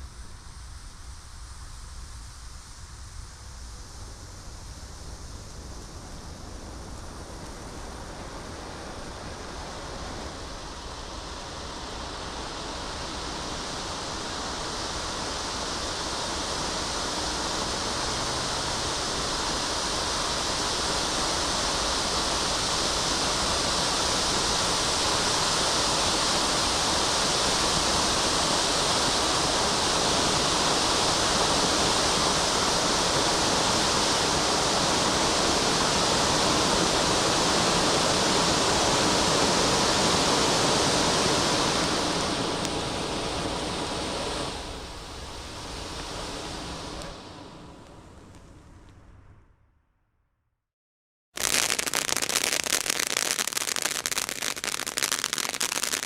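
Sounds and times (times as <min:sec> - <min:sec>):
firework fountain hissing: 0:00.0 - 0:49.0, 0:51.4 - 0:56.0.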